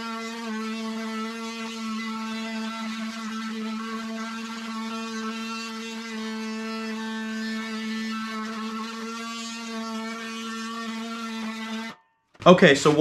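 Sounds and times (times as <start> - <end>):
oscillating tool cutting wood: 0.0 - 13.0.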